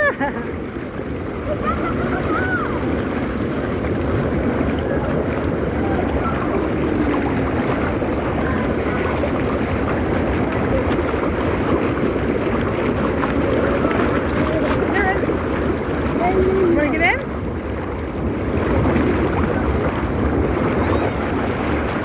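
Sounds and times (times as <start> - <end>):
pool bubbler churning water: 0.0 - 22.0.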